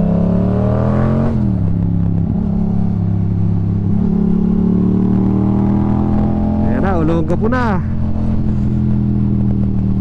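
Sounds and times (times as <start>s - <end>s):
motorcycle engine accelerating: 0.0s - 10.0s
road and wind noise: 0.0s - 10.0s.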